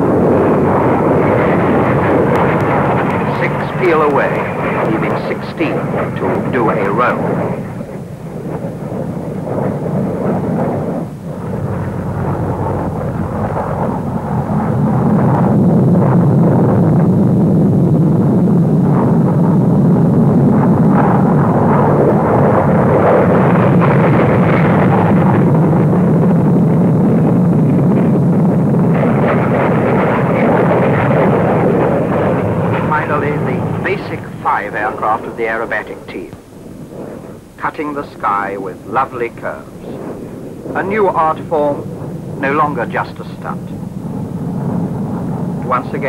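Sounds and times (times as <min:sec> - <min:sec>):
jet fighters roaring overhead: 0:00.0 - 0:46.0.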